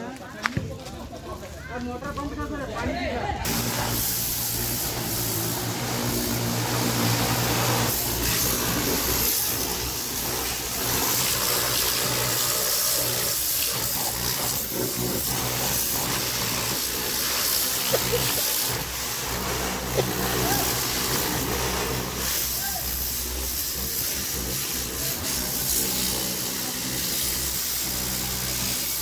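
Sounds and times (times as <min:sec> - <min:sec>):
pressure washer motor humming: 0:03.4 - 0:29.0
water jet hissing: 0:03.4 - 0:29.0.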